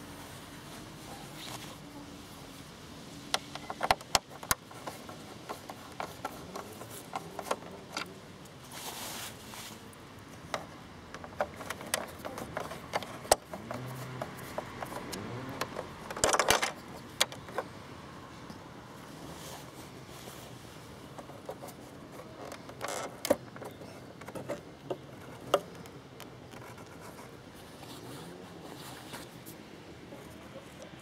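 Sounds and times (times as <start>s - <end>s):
scraping rustles: 0.0s - 2.7s, 3.4s - 17.7s, 19.0s - 31.0s.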